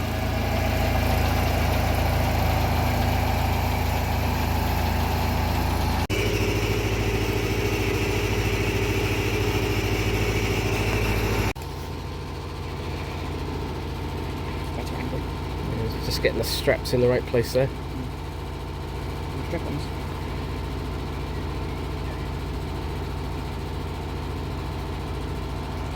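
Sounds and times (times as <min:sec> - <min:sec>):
boat lift engine idling: 0:00.0 - 0:25.9.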